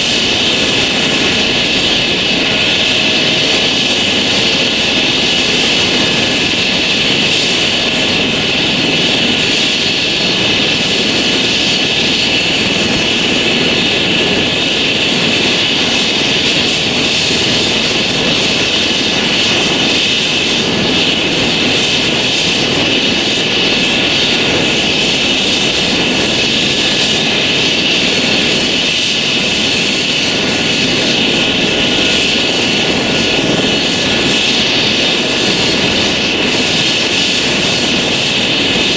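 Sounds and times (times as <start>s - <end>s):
helicopter turbine engines and rotor: 0.0s - 38.9s.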